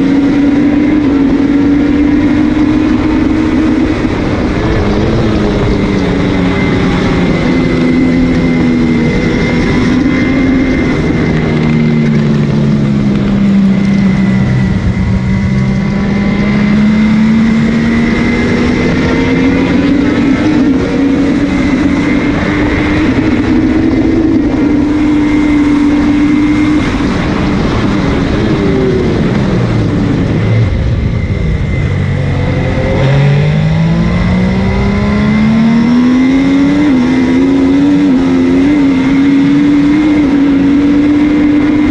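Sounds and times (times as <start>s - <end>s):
motorcycle engine at racing speed: 0.0s - 41.9s.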